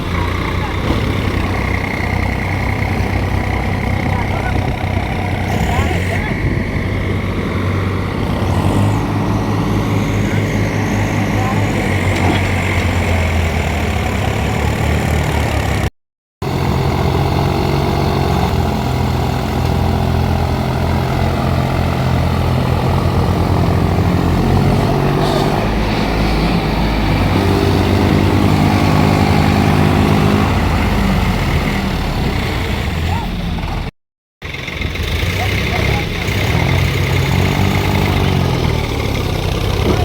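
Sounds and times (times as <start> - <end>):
tractor diesel engines under load: 0.0 - 40.0.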